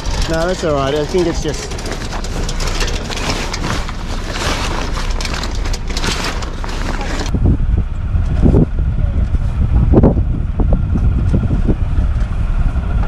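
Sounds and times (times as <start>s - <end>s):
low wind rumble: 0.0s - 13.0s
wind buffeting microphone: 0.0s - 13.0s.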